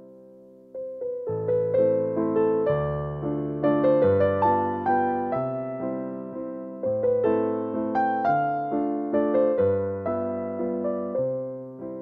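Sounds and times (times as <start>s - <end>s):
keyboard notes and chords: 0.0s - 12.0s.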